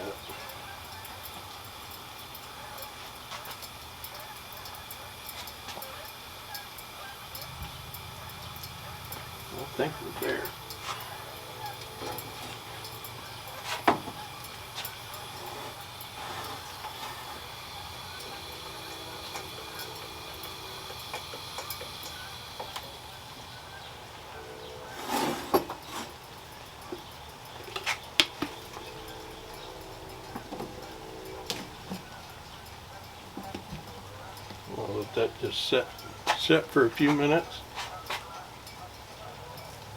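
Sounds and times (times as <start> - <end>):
camp stove burner hissing: 0.0 - 39.9
metal coffee pot clinking: 0.0 - 39.9.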